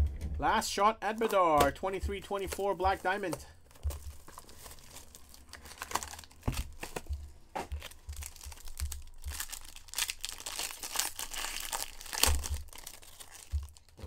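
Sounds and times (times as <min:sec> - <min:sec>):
foil wrapper crinkling and tearing: 0:02.4 - 0:14.0.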